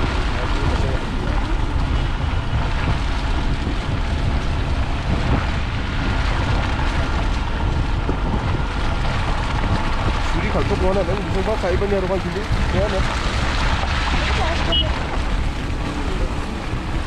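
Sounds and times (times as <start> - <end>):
tyres on snowy road: 0.0 - 17.0
wind buffeting microphone: 0.0 - 17.0.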